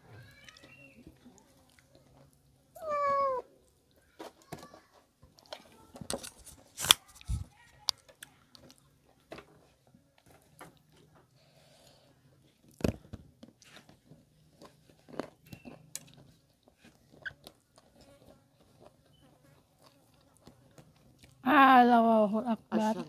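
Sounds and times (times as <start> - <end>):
people chewing food: 0.0 - 21.7.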